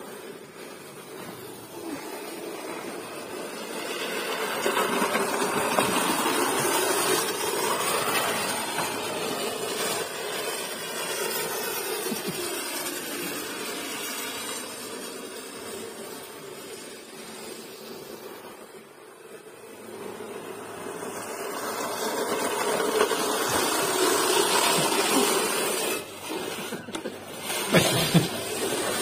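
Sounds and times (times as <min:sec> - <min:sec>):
reel mower whirring rattle: 0:00.0 - 0:29.0.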